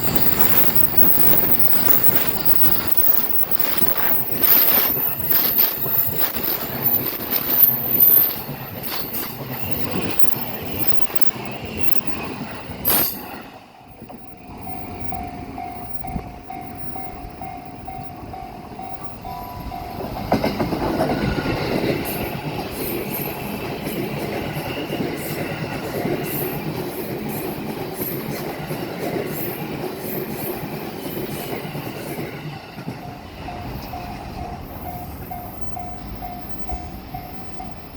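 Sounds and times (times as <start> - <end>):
level-crossing warning bell ringing: 0.0 - 27.6, 29.5 - 37.9
train passing: 0.0 - 37.9.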